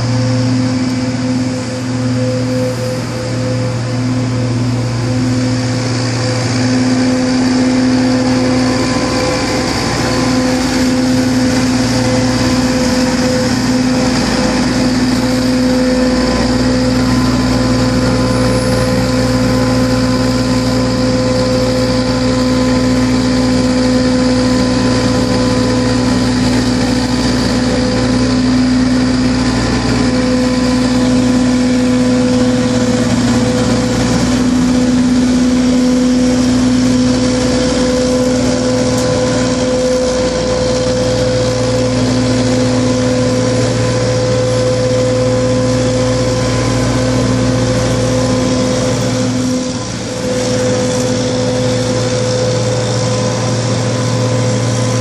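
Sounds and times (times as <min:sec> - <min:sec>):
street sweeper droning: 0:00.0 - 0:55.0.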